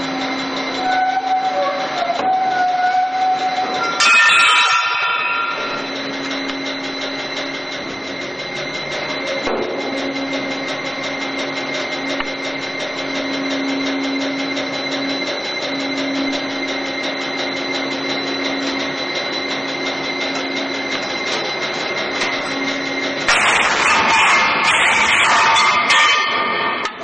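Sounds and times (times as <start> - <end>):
industrial shredder humming: 0.0 - 27.0.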